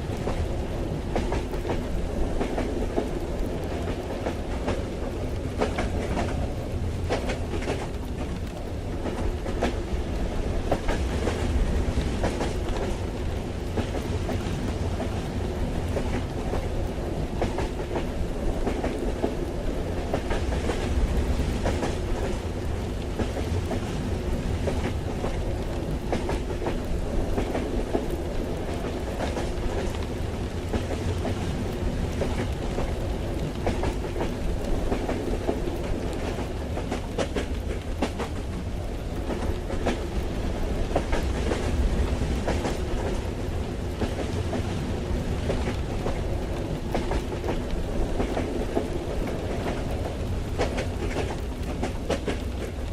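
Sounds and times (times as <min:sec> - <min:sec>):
light rain patter: 0:00.0 - 0:52.9
train carriage rumbling on track: 0:00.0 - 0:52.9
wheels clickety-clack: 0:00.1 - 0:10.0, 0:10.6 - 0:52.9.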